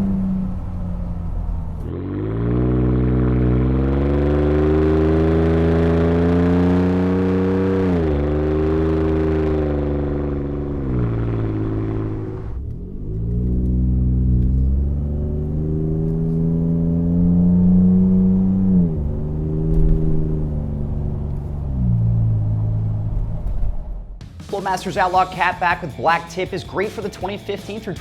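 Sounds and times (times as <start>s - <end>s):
truck exhaust deep note: 0.0s - 24.3s.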